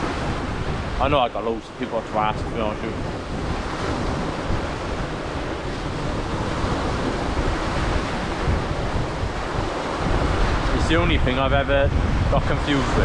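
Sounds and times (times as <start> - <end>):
waves breaking on shore: 0.0 - 13.0
wind buffeting microphone: 0.0 - 13.0.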